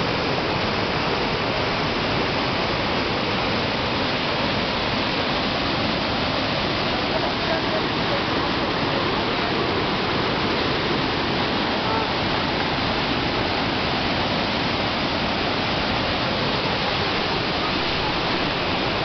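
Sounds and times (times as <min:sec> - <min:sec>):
waterfall rushing over rocks: 0:00.0 - 0:19.0.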